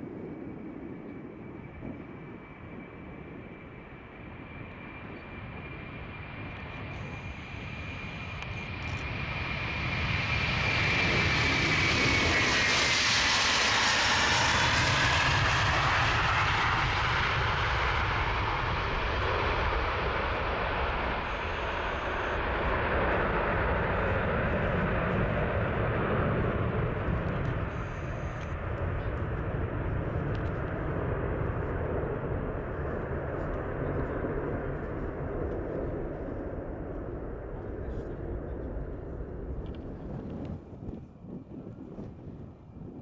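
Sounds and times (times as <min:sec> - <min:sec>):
high jet engine whine: 0:00.0 - 0:43.0
jet engines at take-off thrust: 0:00.0 - 0:43.0.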